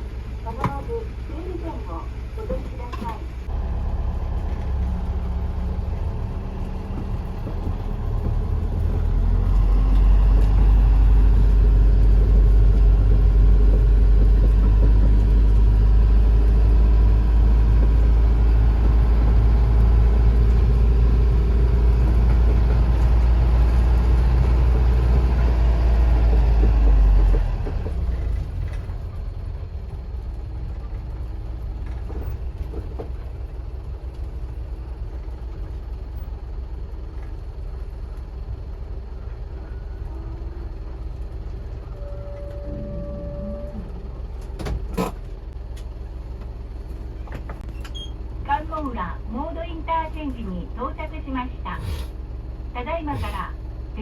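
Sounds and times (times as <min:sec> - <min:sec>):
diesel bus engine running: 0:00.0 - 0:54.0.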